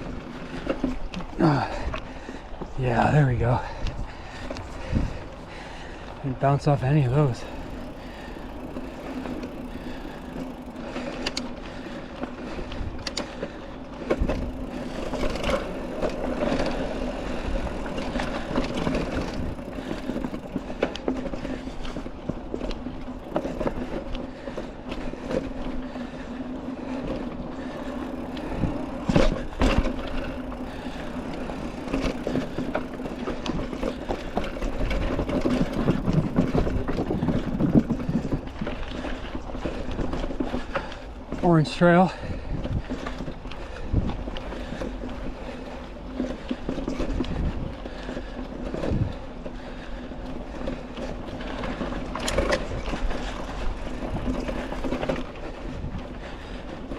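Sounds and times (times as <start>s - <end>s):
bike clunking and rattling over bumps: 0.0s - 56.9s
bike tyre and drivetrain noise: 0.0s - 56.9s.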